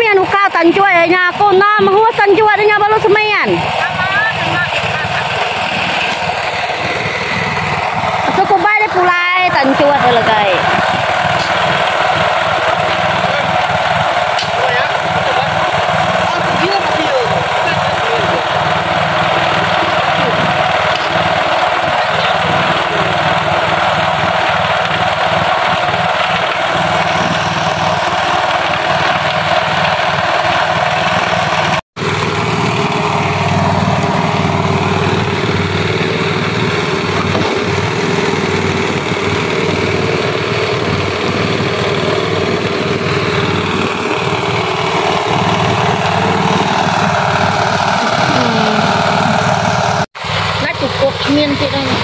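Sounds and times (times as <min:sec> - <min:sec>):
cement mixer engine running: 0:00.0 - 0:52.0.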